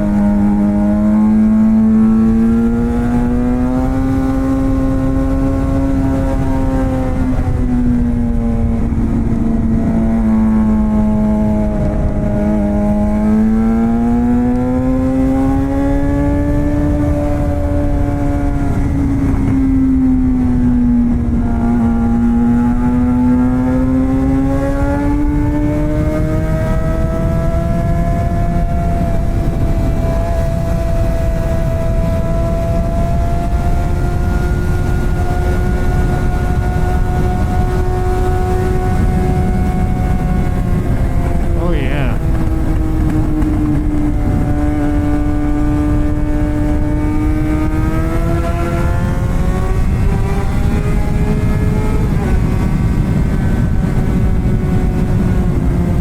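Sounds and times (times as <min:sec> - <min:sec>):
motorcycle engine at high revs: 0:00.0 - 0:56.0
wind and road noise: 0:00.0 - 0:56.0.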